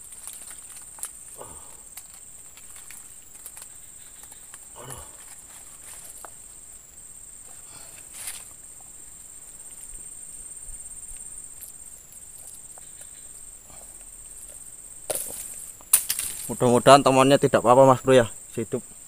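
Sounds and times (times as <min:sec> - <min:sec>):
rustling and handling noises: 0:00.0 - 0:06.7, 0:07.4 - 0:16.6
high-pitched insect chorus: 0:00.0 - 0:19.0.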